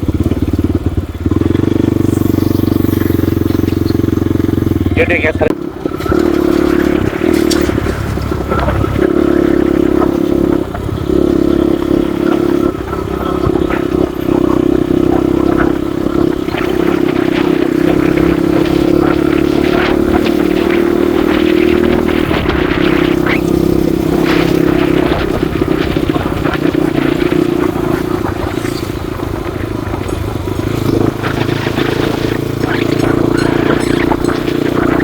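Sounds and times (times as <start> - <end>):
motorcycle engine running: 0.0 - 35.0
rattles and scrapes: 2.0 - 35.0.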